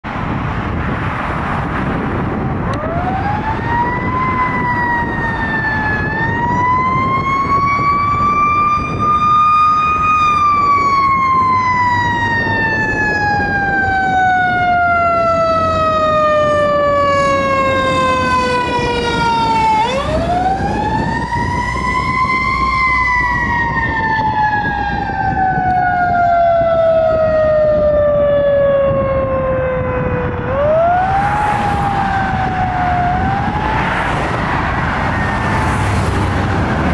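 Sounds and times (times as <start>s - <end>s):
engine and road rumble: 0.0s - 36.9s
fire engine siren wailing: 0.2s - 36.9s.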